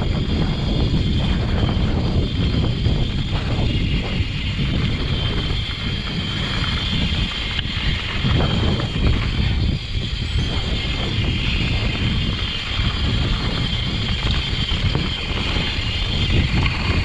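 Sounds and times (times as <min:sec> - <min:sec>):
bike rattling: 0:00.0 - 0:17.0
bike tyres rumbling on dirt: 0:00.0 - 0:17.0
wind buffeting microphone: 0:00.0 - 0:17.0.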